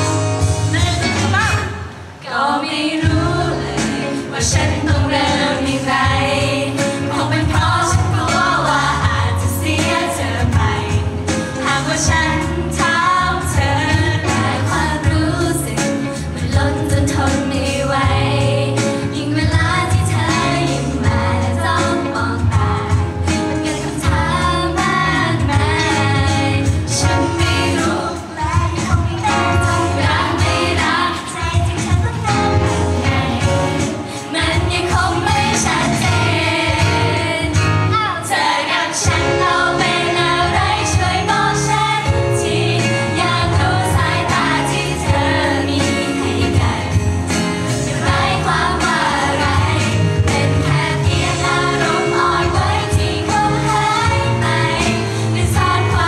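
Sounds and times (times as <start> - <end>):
young women singing pop song: 2.2 - 56.0.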